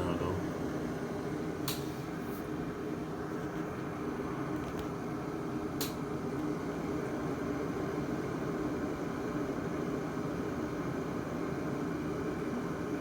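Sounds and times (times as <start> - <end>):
kettle heating water hiss: 0.0 - 13.0.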